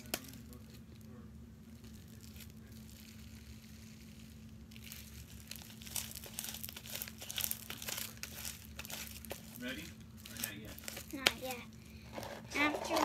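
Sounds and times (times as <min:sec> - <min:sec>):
slime crackling and popping: 0:00.0 - 0:11.8
faint steady hum: 0:00.0 - 0:13.0.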